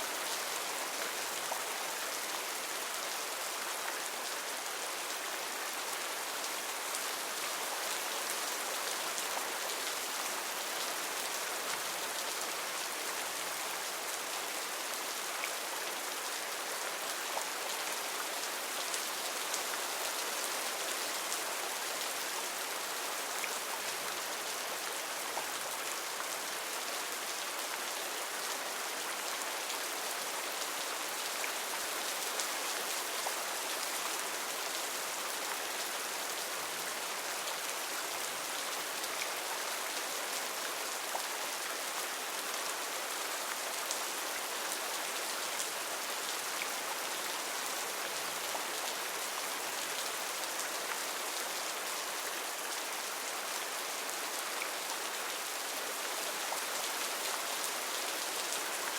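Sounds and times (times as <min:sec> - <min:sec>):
heavy rain on foliage: 0:00.0 - 0:58.9.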